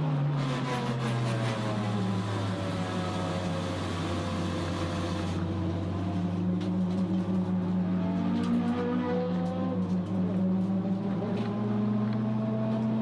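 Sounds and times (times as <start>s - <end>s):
car engine at speed: 0.0s - 13.0s.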